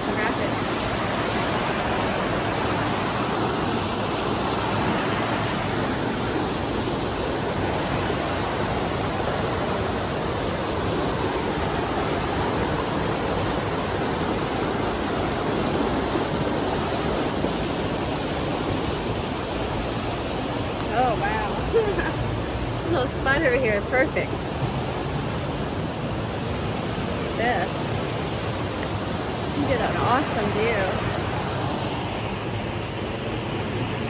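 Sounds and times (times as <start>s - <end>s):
whitewater rushing over boulders: 0.0s - 34.0s.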